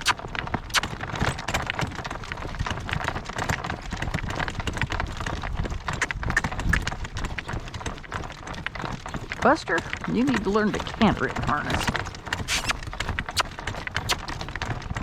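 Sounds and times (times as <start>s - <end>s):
horse hooves clip-clopping: 0.0s - 15.0s
wind rumbling on microphone: 0.0s - 15.0s.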